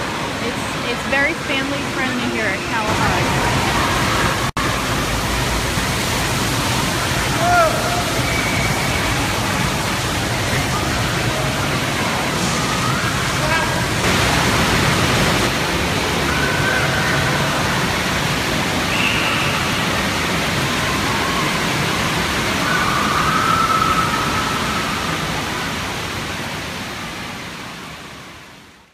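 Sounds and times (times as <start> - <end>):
water spraying and splashing: 0.0 - 27.9.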